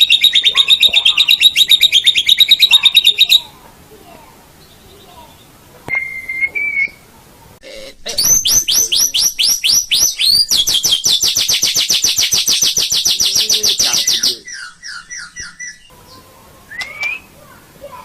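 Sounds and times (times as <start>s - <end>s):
songbird whistling and trilling: 0.0s - 3.5s, 4.6s - 7.1s, 8.2s - 17.4s.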